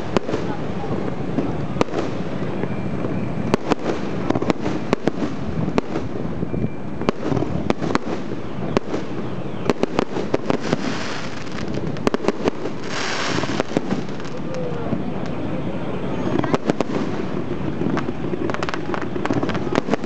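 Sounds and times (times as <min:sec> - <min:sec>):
fireworks crackling hiss: 0:00.0 - 0:06.4, 0:07.0 - 0:15.4, 0:16.3 - 0:20.0
background rumble: 0:00.0 - 0:20.0
fireworks bursting: 0:00.0 - 0:20.0.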